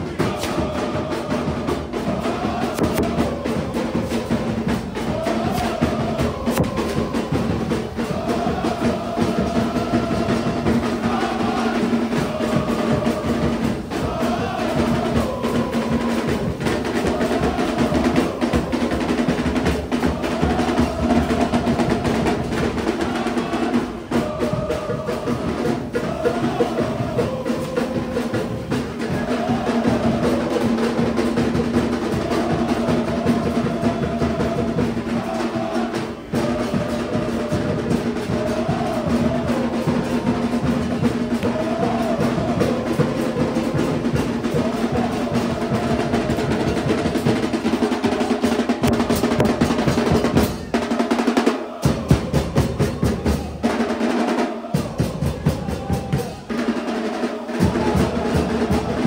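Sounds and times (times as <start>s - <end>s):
music with busy drums: 0.0s - 59.0s.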